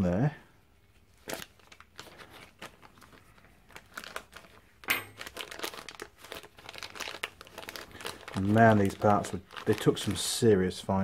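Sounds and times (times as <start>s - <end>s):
plastic bag crinkling: 1.1s - 10.8s.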